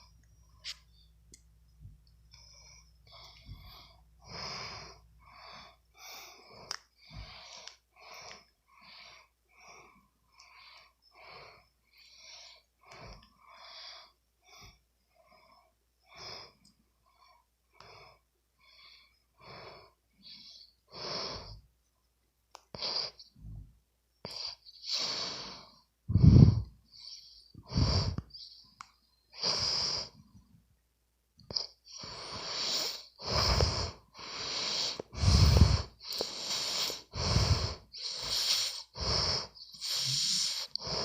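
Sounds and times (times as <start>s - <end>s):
rapid wheezy breathing: 2.4s - 21.7s, 24.3s - 30.4s, 31.6s - 41.0s.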